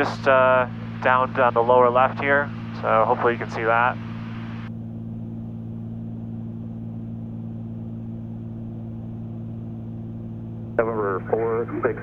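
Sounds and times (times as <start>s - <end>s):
aircraft piston engines droning: 0.0s - 5.0s, 7.2s - 12.0s.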